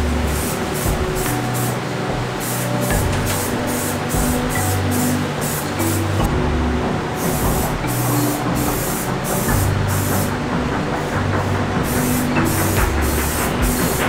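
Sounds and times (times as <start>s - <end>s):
spray paint can hissing: 0.0s - 6.3s, 7.2s - 10.4s, 11.8s - 14.0s.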